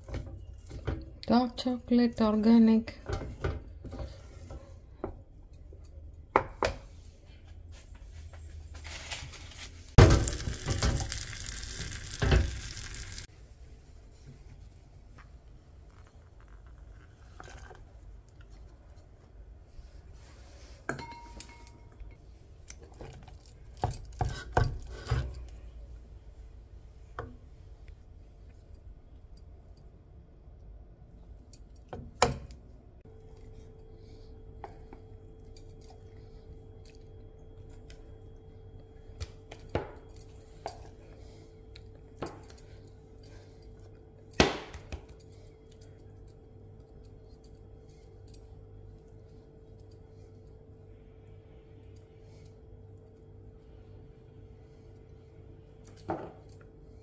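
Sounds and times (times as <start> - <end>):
faint steady hum: 10.0 - 57.0.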